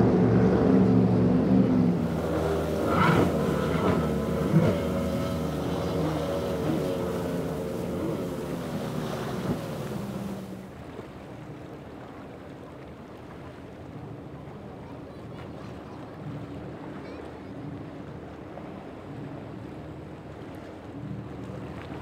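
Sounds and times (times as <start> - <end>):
powerboat engines running: 0.0 - 12.4, 14.0 - 22.0
wind and water wash: 0.0 - 22.0.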